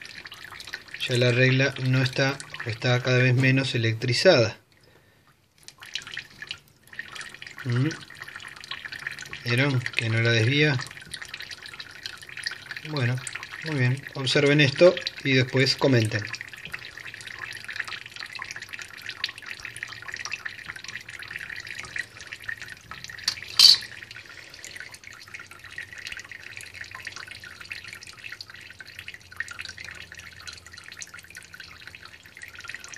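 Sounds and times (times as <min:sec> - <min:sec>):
tap water trickling into sink: 0:00.0 - 0:32.9
water drips: 0:00.0 - 0:32.9.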